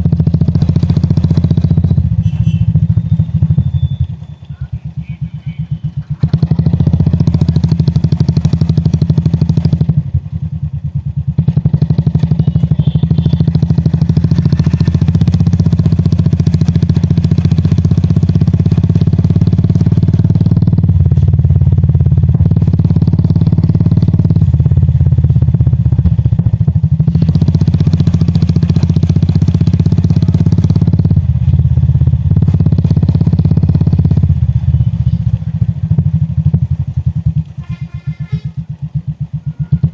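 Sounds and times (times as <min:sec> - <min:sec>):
motorcycle engine exhaust thumping: 0:00.0 - 0:39.9.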